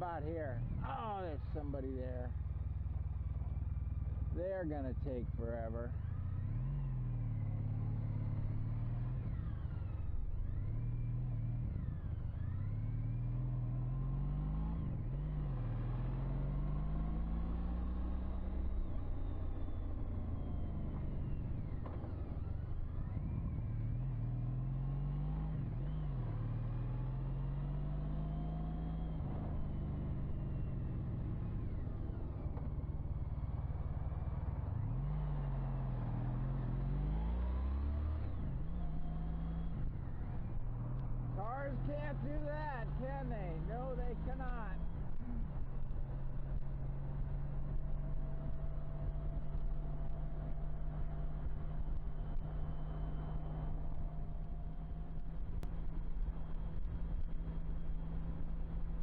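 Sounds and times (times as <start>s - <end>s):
motorbike engine accelerating: 0.0s - 59.0s.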